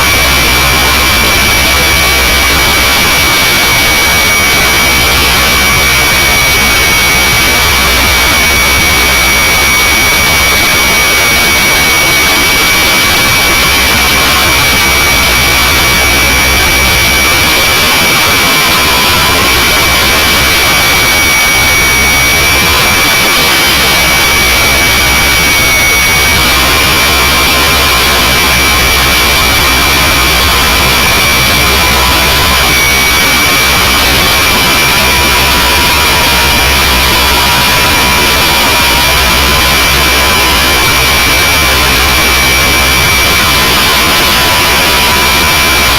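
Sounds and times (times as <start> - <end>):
radio-controlled helicopter whine: 0.0 - 45.9
rushing noise: 0.0 - 45.9.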